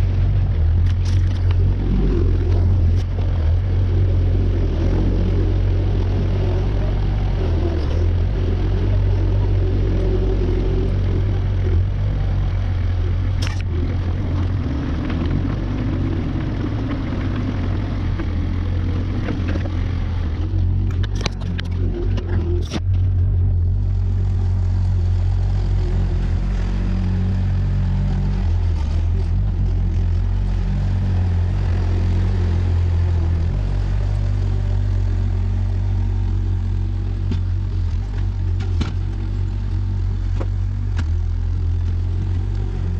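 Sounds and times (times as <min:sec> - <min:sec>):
earthmoving machine engine running: 0:00.0 - 0:42.9.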